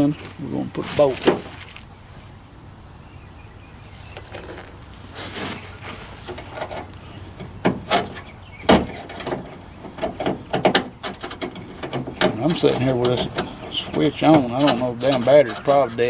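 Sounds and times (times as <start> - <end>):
metal clicks and clunks: 0.0 - 1.8, 4.1 - 16.0
pulsing insect trill: 0.0 - 16.0.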